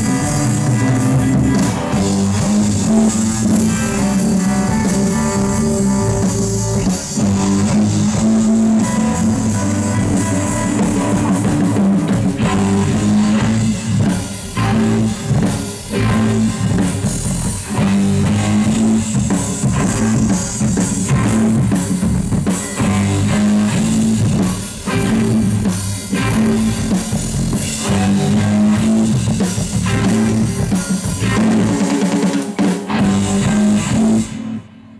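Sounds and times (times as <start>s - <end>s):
drum kit: 0.0s - 34.9s
electric bass: 0.0s - 34.9s
electric guitar: 0.0s - 34.9s.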